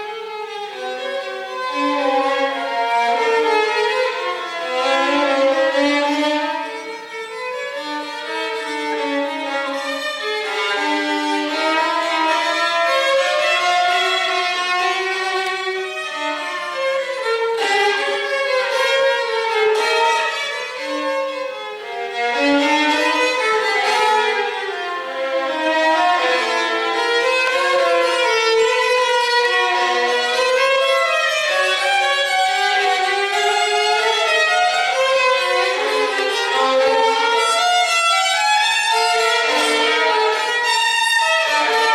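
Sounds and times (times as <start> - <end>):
bowed violin melody: 0.0 - 41.9.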